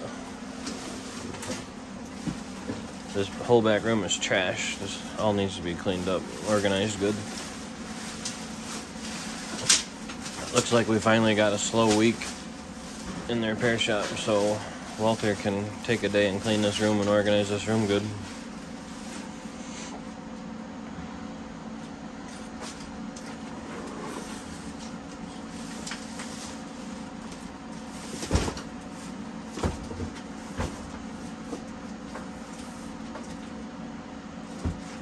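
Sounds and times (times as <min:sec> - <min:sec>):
background hum: 0:00.0 - 0:35.0.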